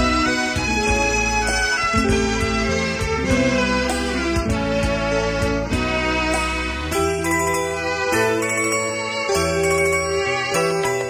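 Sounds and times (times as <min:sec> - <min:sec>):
instrumental devotional music: 0:00.0 - 0:11.0.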